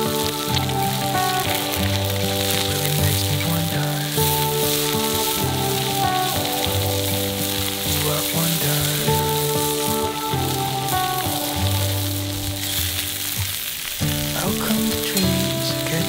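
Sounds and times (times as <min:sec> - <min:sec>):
beef sizzling over campfire: 0:00.0 - 0:16.0
instrumental background music: 0:00.0 - 0:16.0.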